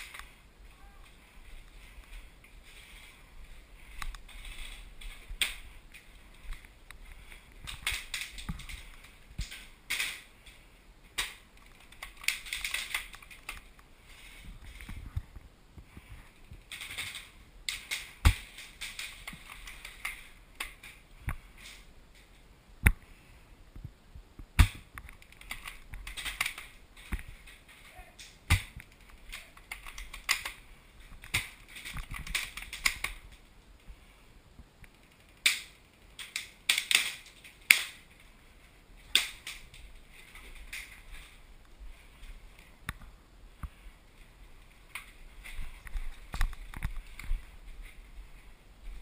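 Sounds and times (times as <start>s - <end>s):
rustling: 0.0s - 49.0s.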